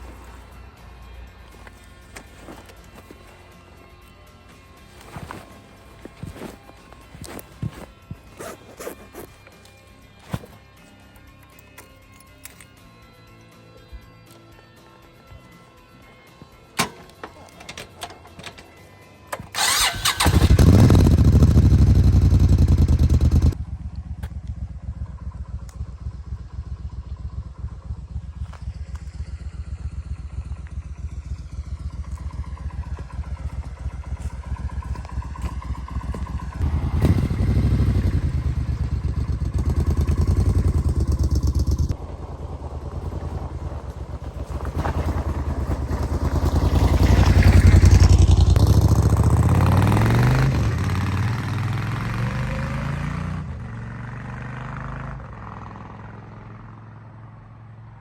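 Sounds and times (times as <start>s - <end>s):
motorcycle engine starting and revving: 1.5s - 3.6s, 4.5s - 9.4s, 16.8s - 57.7s.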